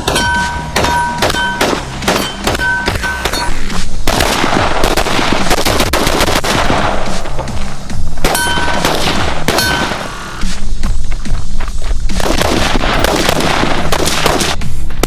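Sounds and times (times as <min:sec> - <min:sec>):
rapid gunfire: 0:00.0 - 0:10.6, 0:12.1 - 0:14.8
background music: 0:00.0 - 0:15.0.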